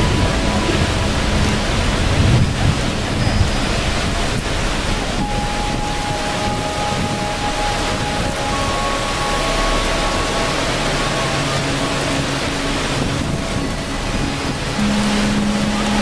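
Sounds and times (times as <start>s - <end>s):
rushing water roar: 0.0s - 16.0s.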